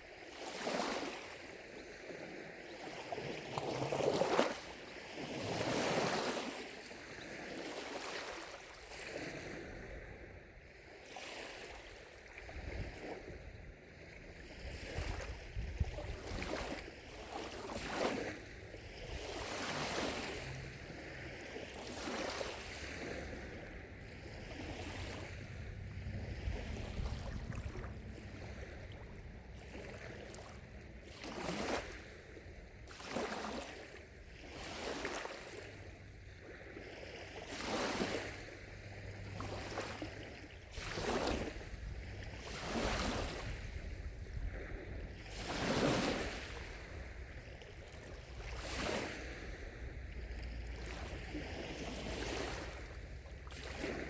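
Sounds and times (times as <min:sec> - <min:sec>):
lake waves lapping at shore: 0:00.0 - 0:54.0
wind rumble on microphone: 0:00.0 - 0:54.0.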